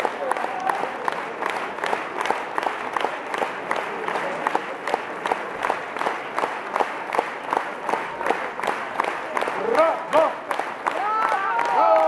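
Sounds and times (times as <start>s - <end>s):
audience applauding: 0.0s - 12.0s
sharp nearby claps: 0.0s - 12.0s.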